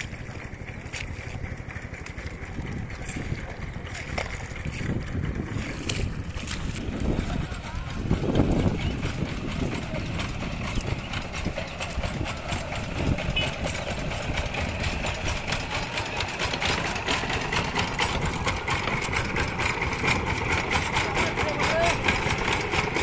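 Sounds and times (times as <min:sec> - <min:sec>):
diesel engine idling chugging: 0:00.0 - 0:23.0.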